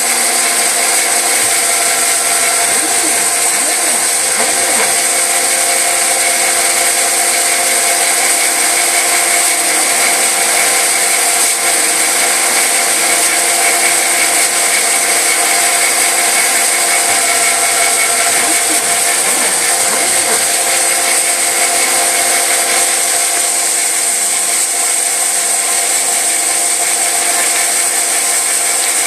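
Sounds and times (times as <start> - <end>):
dense cutting noise: 0.0 - 25.4
machine spindle whine: 0.0 - 29.0.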